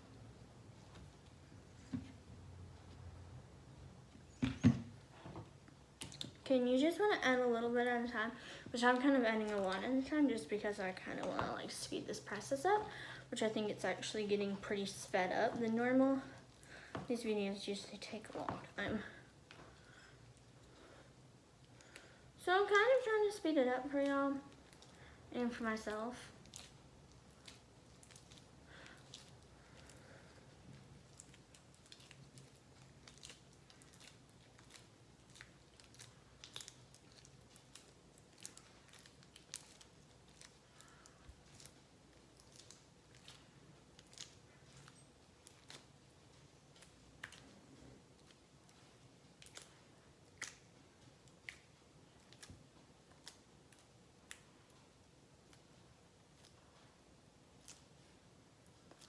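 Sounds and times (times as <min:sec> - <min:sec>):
slime stirred with spatula: 0:05.1 - 0:59.0.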